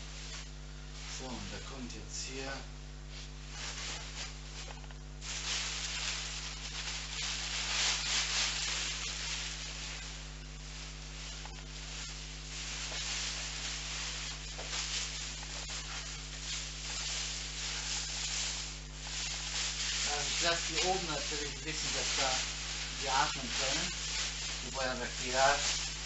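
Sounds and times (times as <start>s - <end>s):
plastic bag and fabric rustling: 3.1s - 26.0s.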